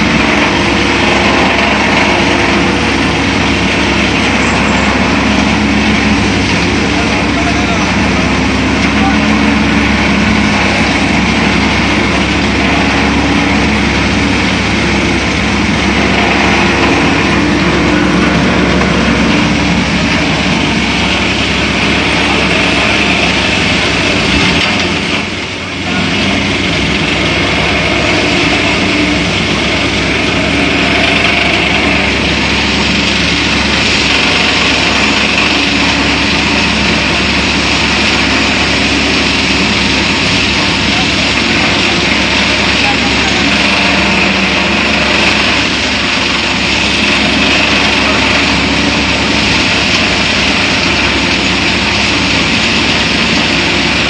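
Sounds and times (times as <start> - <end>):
thresher running: 0.0 - 54.0.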